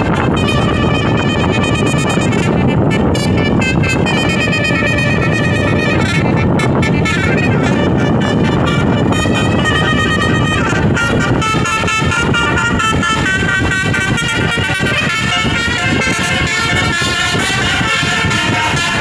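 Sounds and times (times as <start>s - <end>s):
bus engine rumble: 0.0s - 19.0s
multi-tone bus horn tune: 0.0s - 19.0s.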